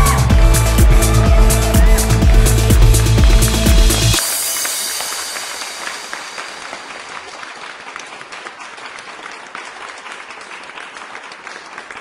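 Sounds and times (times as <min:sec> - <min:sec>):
crowd applause: 0:00.0 - 0:12.0.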